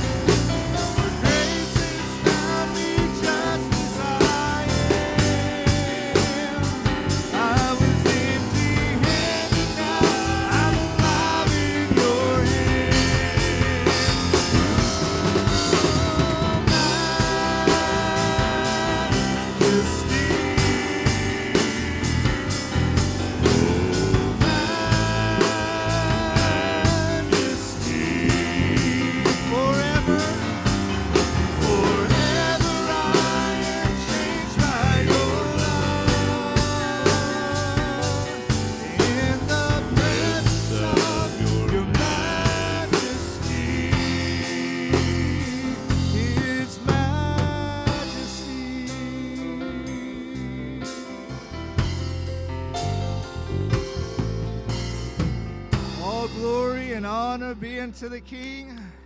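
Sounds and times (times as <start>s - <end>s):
drum kit beat: 0.0s - 49.5s, 50.8s - 56.8s
worship band playing: 0.0s - 59.0s.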